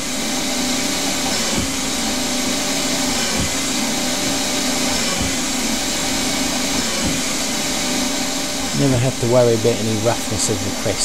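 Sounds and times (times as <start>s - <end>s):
air coolant mister hissing: 0.0s - 11.0s
lathe cutting metal: 0.0s - 11.0s
low machine hum: 0.0s - 11.0s.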